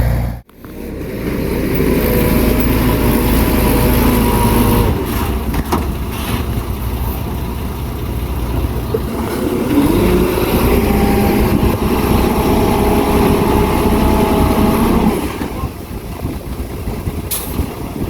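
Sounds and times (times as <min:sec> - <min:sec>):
heavy machinery engine rumbling: 0:00.0 - 0:18.0.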